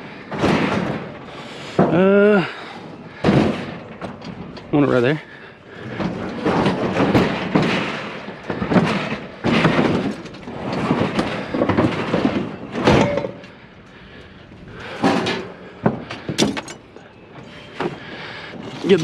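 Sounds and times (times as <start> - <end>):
scrap scraping and clattering: 2.6 - 19.0.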